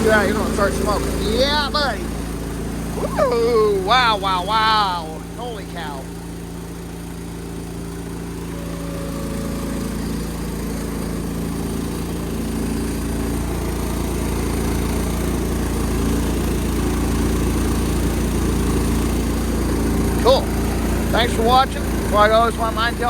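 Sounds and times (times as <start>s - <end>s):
riding mower engine running: 0.0s - 23.0s.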